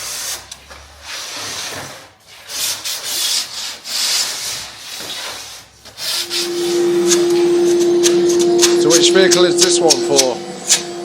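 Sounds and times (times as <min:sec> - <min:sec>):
rubbing strokes: 0:01.1 - 0:11.0.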